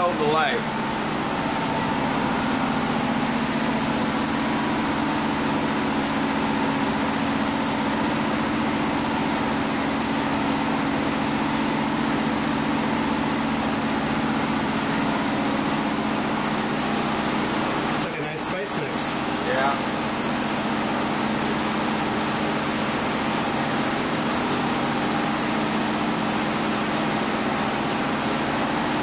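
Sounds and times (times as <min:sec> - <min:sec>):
machine humming and hissing: 0:00.0 - 0:29.0.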